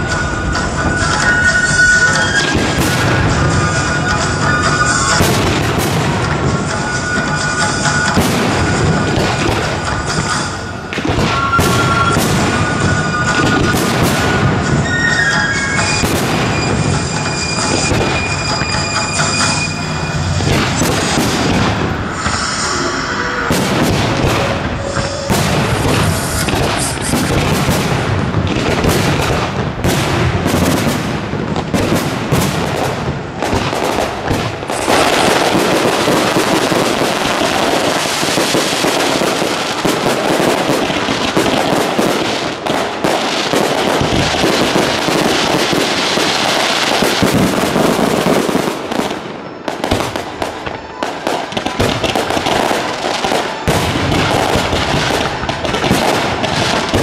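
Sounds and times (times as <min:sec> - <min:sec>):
fireworks bangs and crackle: 0:00.0 - 0:57.0.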